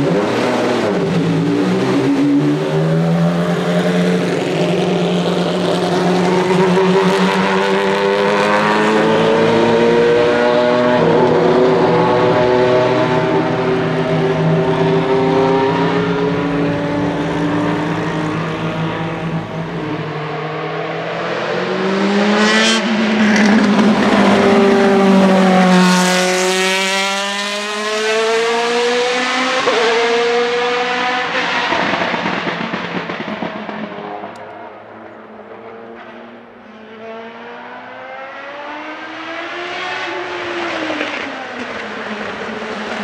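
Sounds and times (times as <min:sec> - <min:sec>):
race car engine passing by: 0:00.0 - 0:43.0.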